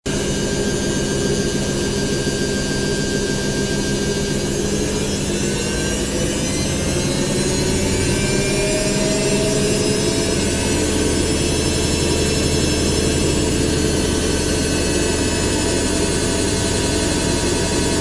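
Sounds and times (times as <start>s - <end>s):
washing machine spinning: 0.1s - 18.0s.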